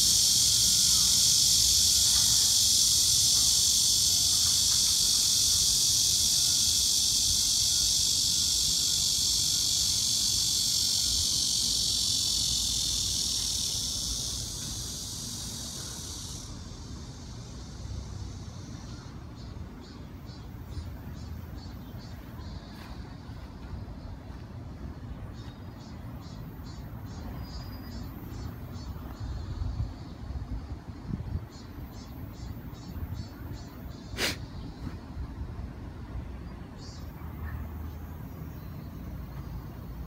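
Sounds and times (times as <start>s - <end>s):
cicadas buzzing: 0.0s - 40.0s.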